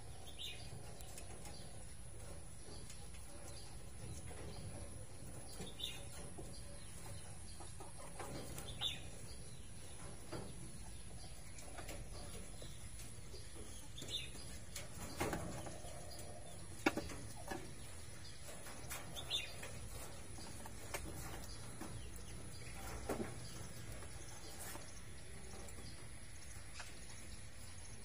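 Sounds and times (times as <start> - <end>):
steady low hum: 0.0 - 28.0
small animals chirping and clicking: 0.2 - 28.0.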